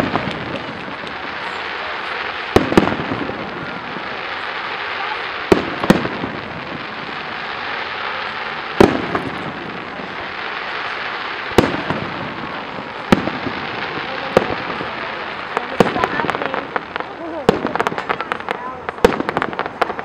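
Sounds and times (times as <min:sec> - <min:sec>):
background hiss: 0:00.0 - 0:20.0
fireworks bursting with echo: 0:00.0 - 0:20.0.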